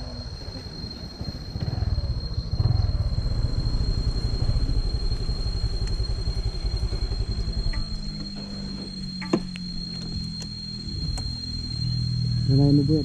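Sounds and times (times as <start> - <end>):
motor scooter engine running: 0.8 - 13.0.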